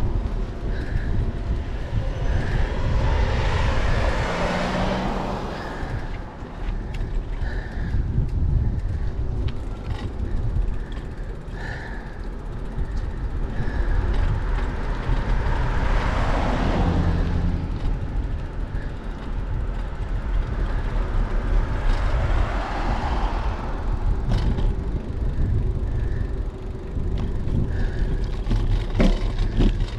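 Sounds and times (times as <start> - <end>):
low rumble of bicycle ride: 0.0 - 29.9
wind rushing over microphone: 0.0 - 29.9.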